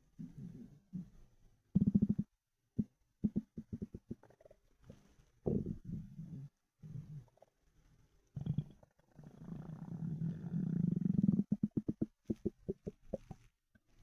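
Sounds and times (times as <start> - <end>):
stomach growling and gurgling: 1.8 - 7.6, 8.3 - 14.0.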